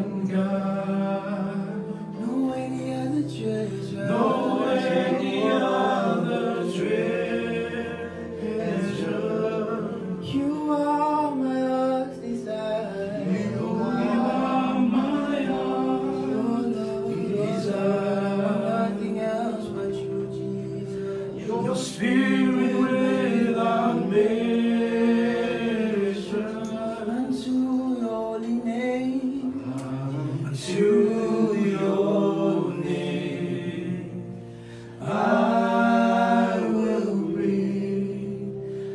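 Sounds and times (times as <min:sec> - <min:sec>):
male voices singing worship song: 0:00.0 - 0:38.9.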